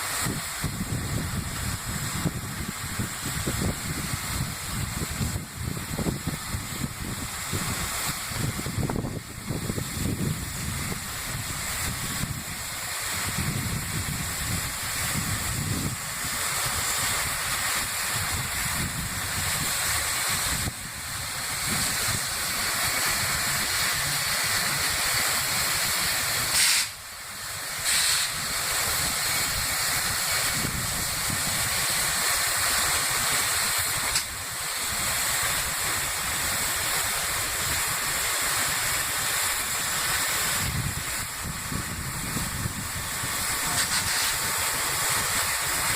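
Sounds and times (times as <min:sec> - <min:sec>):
steam hissing loudly: 0:00.0 - 0:45.9.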